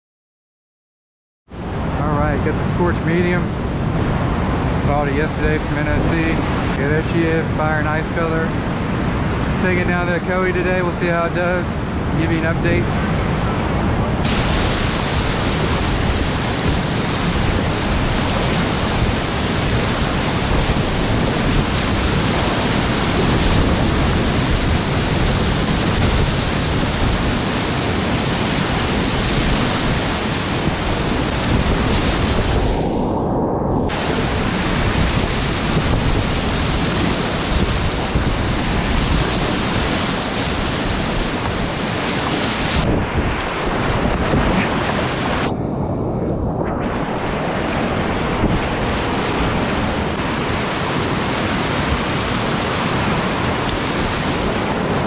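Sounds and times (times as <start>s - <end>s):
wind buffeting microphone: 1.6s - 55.0s
whitewater rapids rushing: 2.4s - 32.8s, 33.9s - 45.5s, 46.9s - 55.0s.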